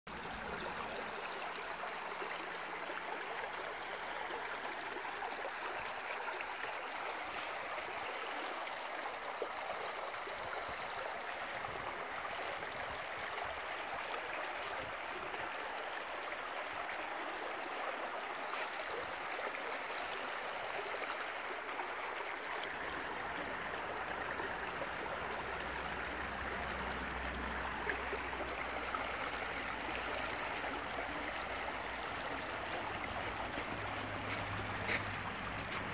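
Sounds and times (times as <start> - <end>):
brook babbling over stones: 0.1 - 35.9.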